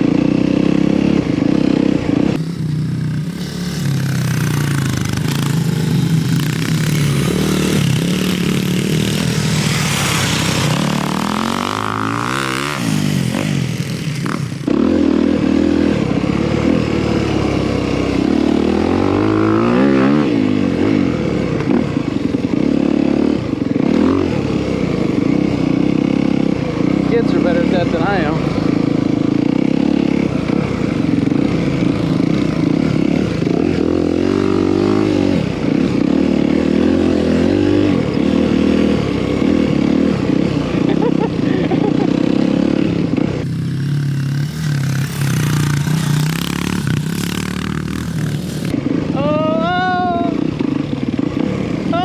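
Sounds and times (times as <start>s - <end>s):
dirt bike engines revving: 0.0s - 21.9s, 25.2s - 52.0s.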